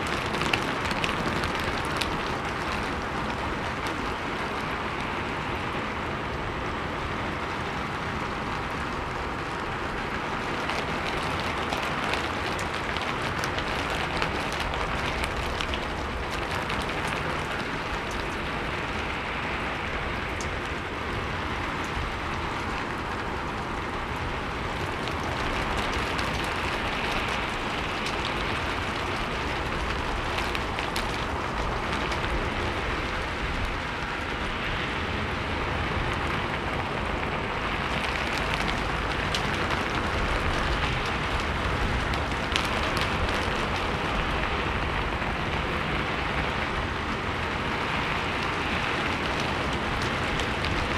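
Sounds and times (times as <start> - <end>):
low wind rumble: 0.0 - 50.9
rain pattering on roof and wood: 0.0 - 50.9.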